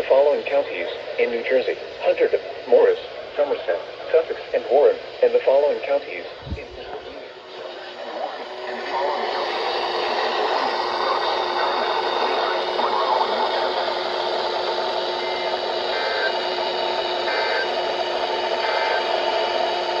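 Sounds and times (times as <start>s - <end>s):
radio static hiss: 0.2s - 17.8s, 18.4s - 19.2s.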